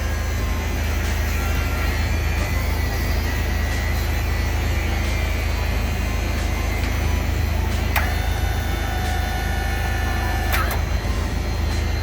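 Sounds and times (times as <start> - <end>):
hydraulic lift whine: 0.0 - 12.0
truck engine idling: 0.0 - 12.0.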